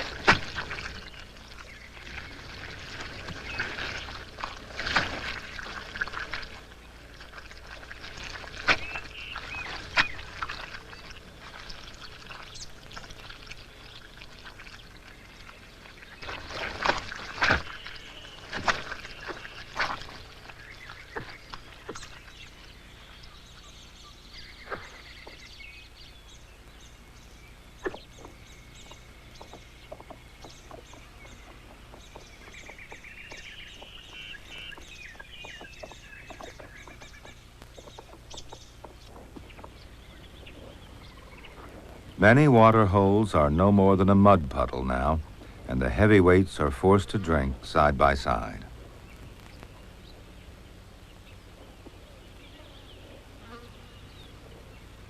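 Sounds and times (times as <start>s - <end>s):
birds calling and chattering: 0.0s - 55.0s.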